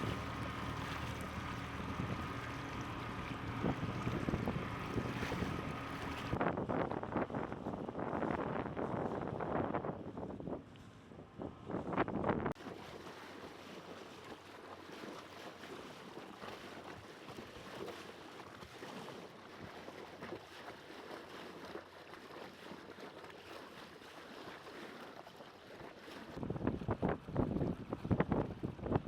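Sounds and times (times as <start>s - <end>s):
water on a waterway: 0.0s - 29.0s
wind: 0.0s - 29.0s.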